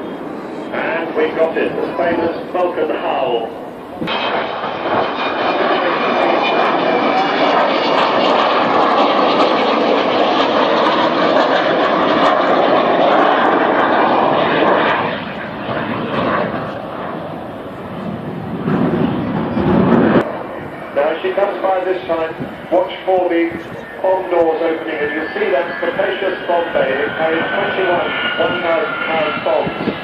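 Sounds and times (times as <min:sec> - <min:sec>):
jet aircraft flypast rush: 0:00.0 - 0:30.0.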